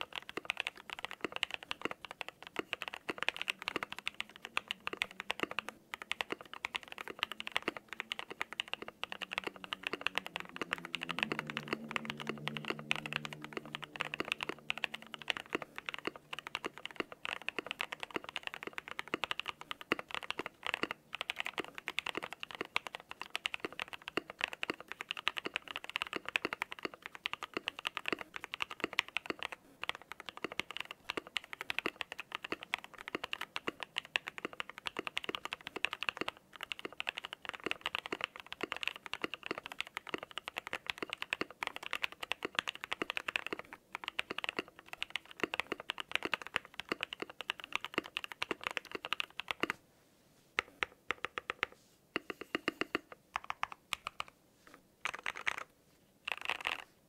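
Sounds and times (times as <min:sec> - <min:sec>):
fast typing on mechanical keyboard: 0:00.0 - 0:49.8, 0:50.6 - 0:54.3, 0:55.0 - 0:56.9.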